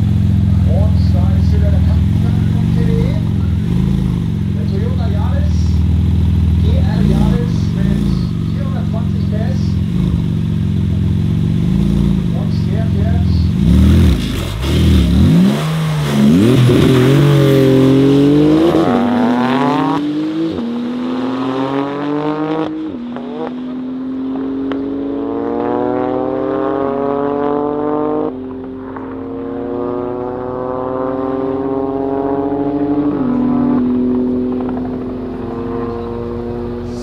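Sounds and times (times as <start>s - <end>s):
cars accelerating at full throttle: 0.0s - 37.0s.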